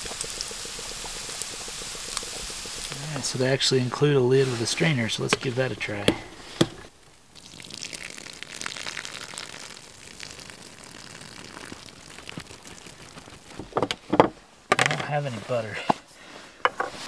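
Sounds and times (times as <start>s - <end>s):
water pouring and splashing: 0.0s - 14.1s.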